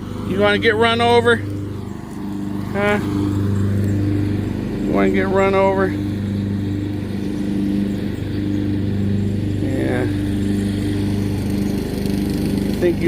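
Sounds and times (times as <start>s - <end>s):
riding lawnmower engine running: 0.0s - 13.0s.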